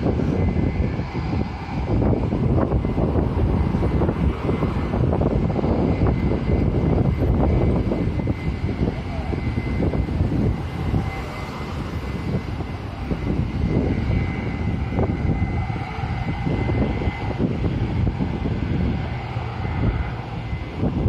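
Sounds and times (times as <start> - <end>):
jet engine whine: 0.0 - 21.0
wind buffeting microphone: 0.0 - 21.0.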